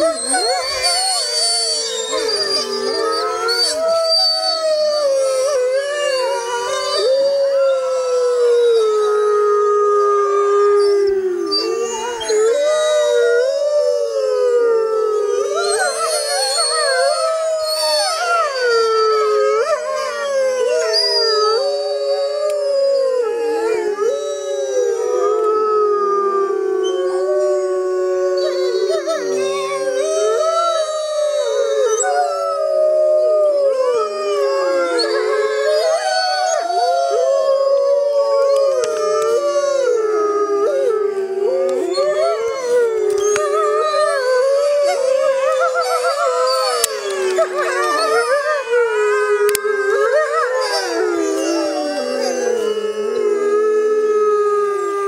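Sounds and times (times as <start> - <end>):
wolves howling: 0.0 - 55.0.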